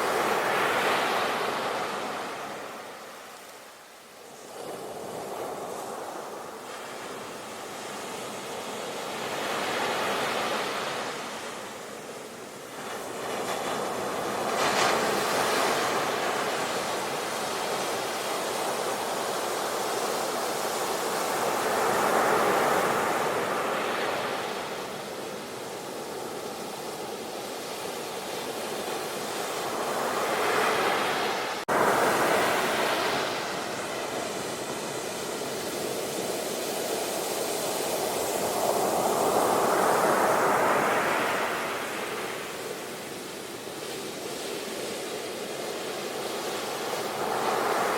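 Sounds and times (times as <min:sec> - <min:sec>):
sea waves breaking on shore: 0:00.0 - 0:47.9.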